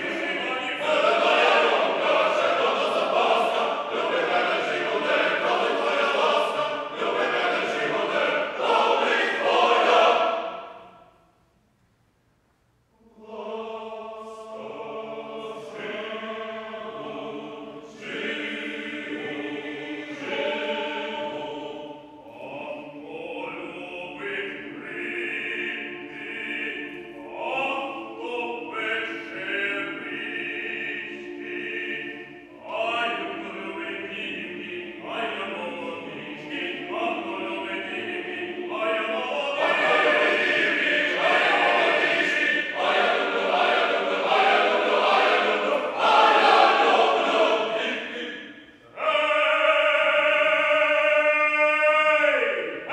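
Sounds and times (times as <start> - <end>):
male choir singing: 0.0 - 10.9, 13.0 - 52.9.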